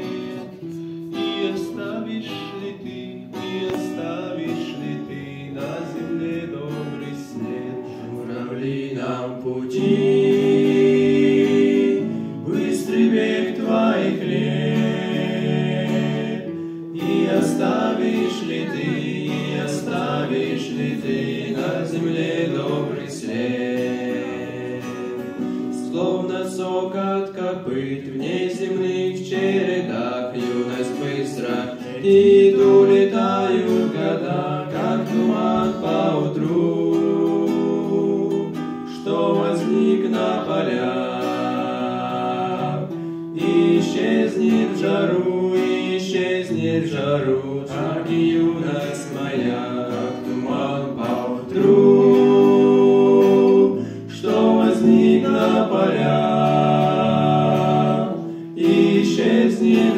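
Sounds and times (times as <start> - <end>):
acoustic guitar: 0.0 - 59.9
men singing together: 1.1 - 59.9.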